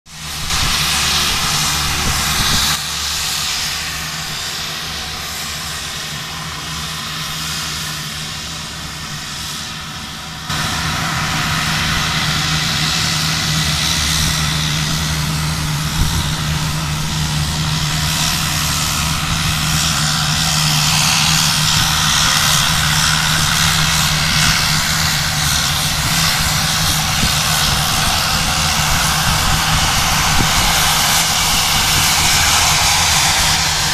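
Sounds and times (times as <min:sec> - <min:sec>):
hissing turbine: 0:00.1 - 0:33.9
propeller airplane engines running: 0:00.1 - 0:33.9.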